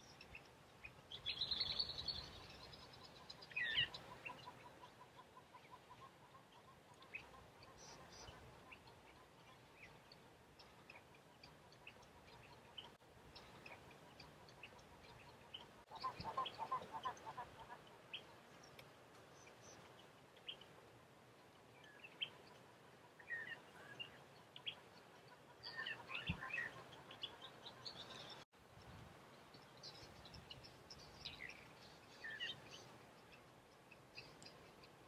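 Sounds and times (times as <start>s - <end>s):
birds chirping: 0.0s - 28.5s, 29.2s - 35.0s.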